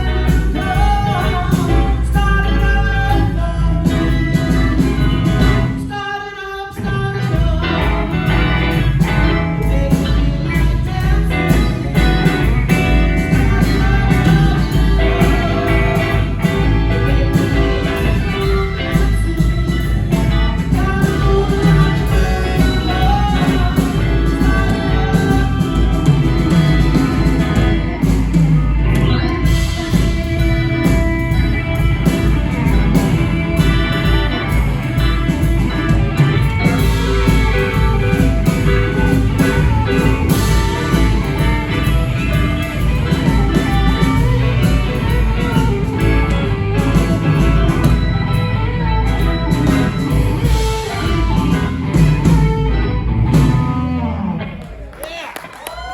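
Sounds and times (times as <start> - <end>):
drum beat: 0.0 - 5.9, 7.3 - 53.8
electric guitar: 0.0 - 55.9.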